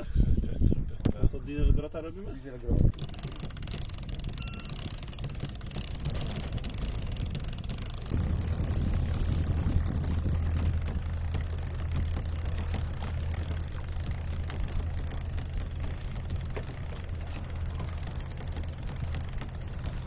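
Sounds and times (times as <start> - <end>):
diesel engine starting and running: 2.9 - 20.0.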